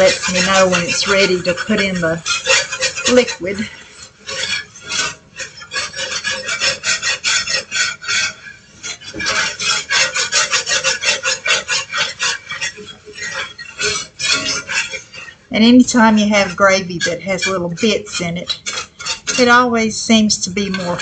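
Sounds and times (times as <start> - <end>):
utensil scraping skillet: 0.0 - 21.0.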